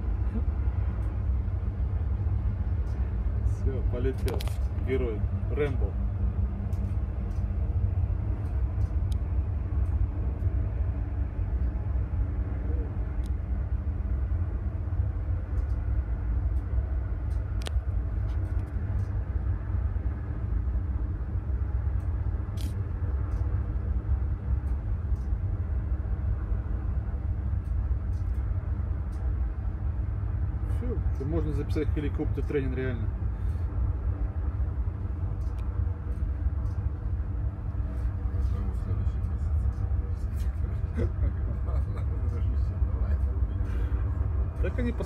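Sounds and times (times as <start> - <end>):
distant helicopter hovering: 0.0 - 45.0.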